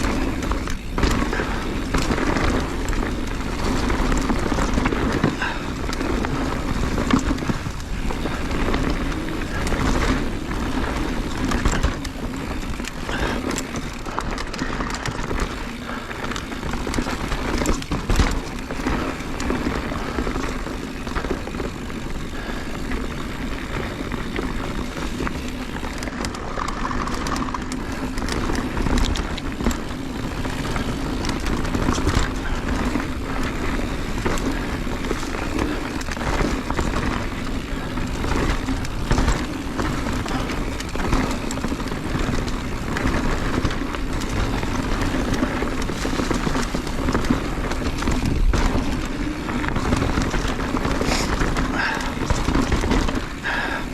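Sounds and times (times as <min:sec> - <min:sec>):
bike rattling over rocks: 0:00.0 - 0:53.9
bike tyres rumbling: 0:00.0 - 0:53.9.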